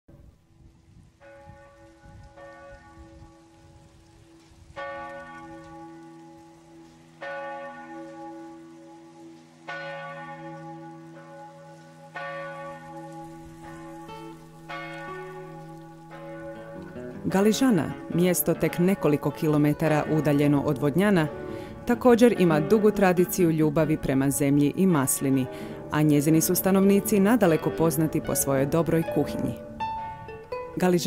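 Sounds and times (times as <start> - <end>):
church bell ringing: 1.2 - 30.3.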